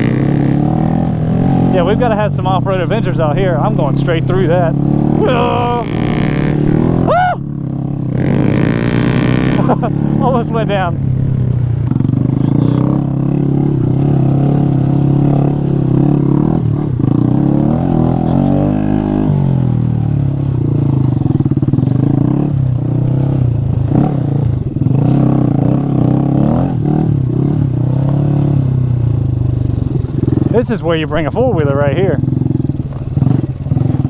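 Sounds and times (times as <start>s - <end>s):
motorcycle engine revving under load: 0.0s - 34.0s.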